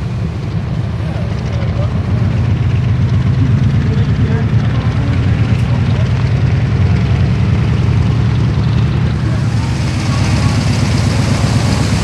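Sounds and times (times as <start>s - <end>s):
piston aircraft engine rumbling: 0.0s - 12.0s.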